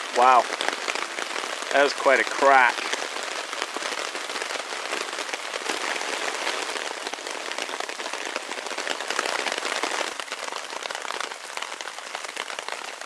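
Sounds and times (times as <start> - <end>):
heavy rain on a tarp: 0.0 - 13.0.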